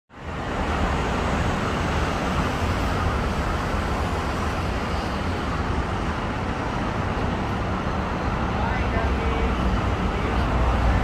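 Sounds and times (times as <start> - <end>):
vehicle rumble and hiss: 0.1 - 11.0.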